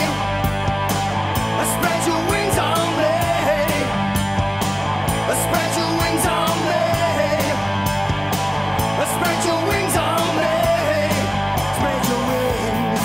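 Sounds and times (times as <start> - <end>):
punk rock instrumental: 0.0 - 13.0.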